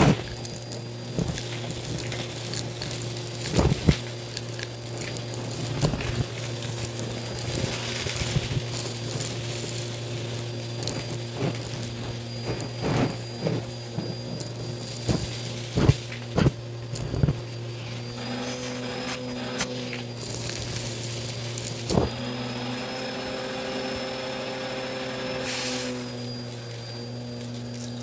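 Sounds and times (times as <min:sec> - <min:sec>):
vacuum cleaner humming and whining: 0:00.0 - 0:28.0.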